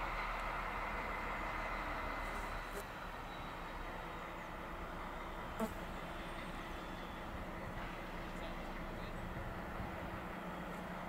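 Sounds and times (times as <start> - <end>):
diesel locomotive engine: 0.0 - 11.0.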